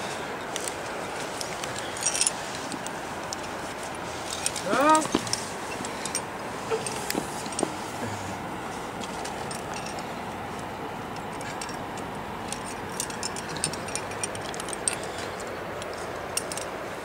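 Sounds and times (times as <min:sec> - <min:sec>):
climbing gear clinking: 0:00.0 - 0:16.9.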